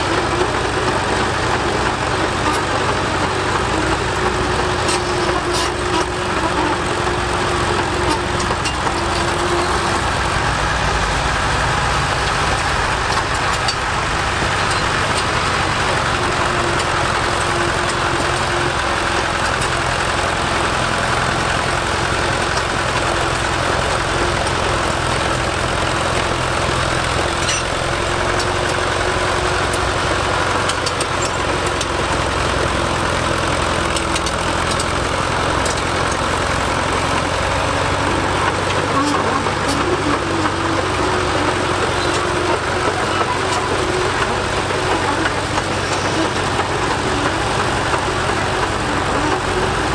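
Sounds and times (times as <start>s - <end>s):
crawler tractor engine running: 0.0s - 49.9s.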